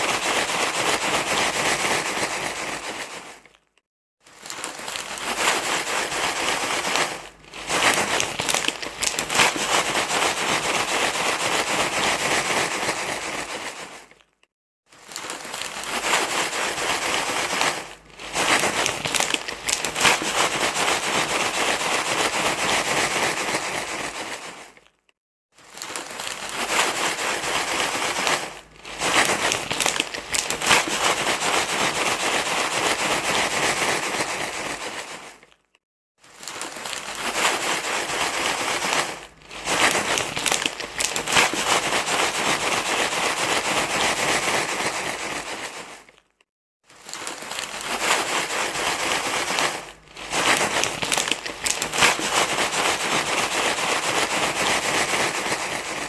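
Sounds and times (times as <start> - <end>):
crinkly rustling and crackling: 0.0 - 56.0.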